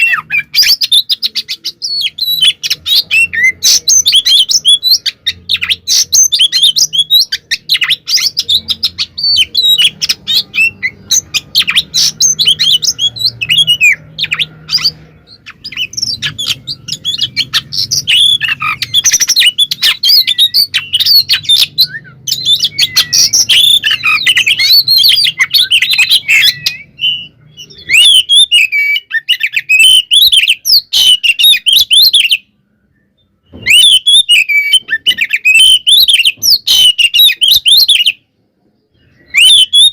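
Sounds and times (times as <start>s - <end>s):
bird singing chirps and whistles: 0.0s - 38.2s, 38.9s - 39.9s.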